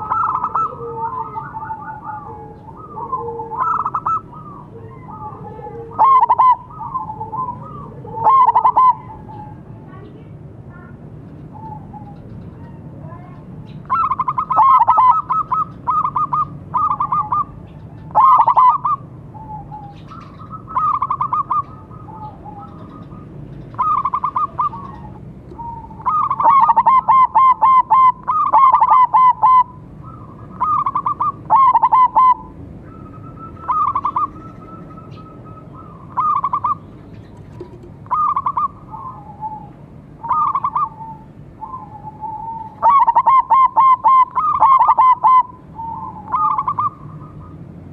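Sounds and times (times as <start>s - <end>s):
doves cooing: 0.0s - 9.9s, 11.4s - 47.9s.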